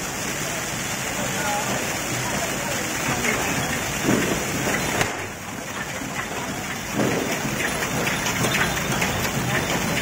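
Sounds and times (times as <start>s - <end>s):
fireworks crackling and hissing: 0.0s - 10.0s.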